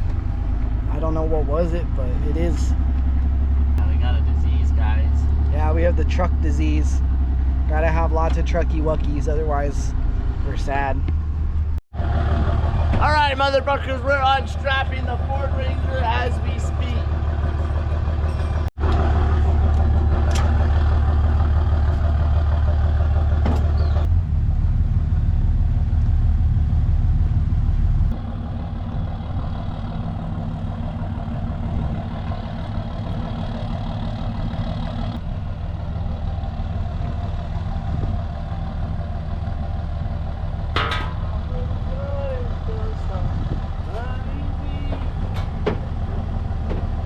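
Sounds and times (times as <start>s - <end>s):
vehicle engine idling: 0.0s - 47.0s.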